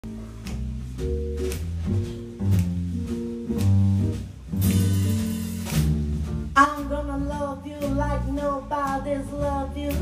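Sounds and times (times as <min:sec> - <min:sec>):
double bass notes: 0:00.0 - 0:10.0
jazz guitar chords: 0:00.0 - 0:10.0.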